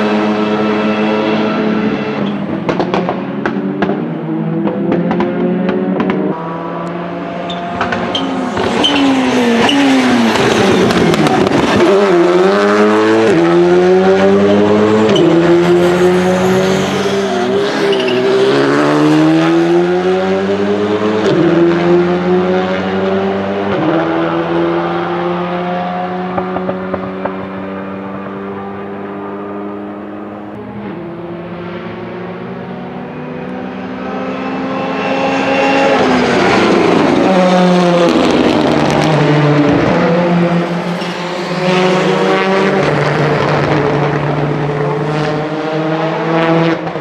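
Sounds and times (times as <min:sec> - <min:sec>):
rally car engine accelerating: 0:00.0 - 0:47.0.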